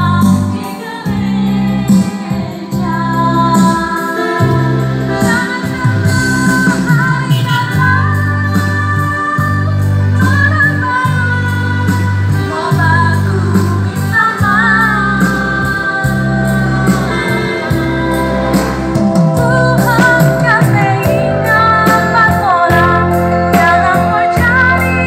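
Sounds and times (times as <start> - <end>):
song over loudspeakers: 0.0 - 25.0.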